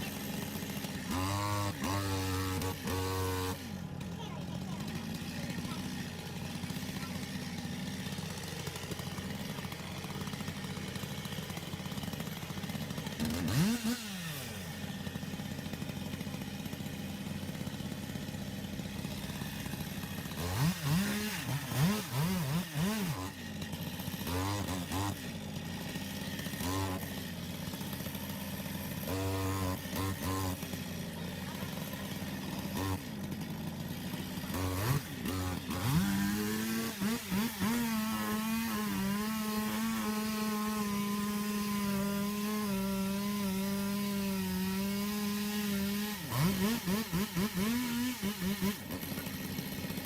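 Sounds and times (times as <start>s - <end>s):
chainsaw engine idling and revving: 0.0s - 50.0s.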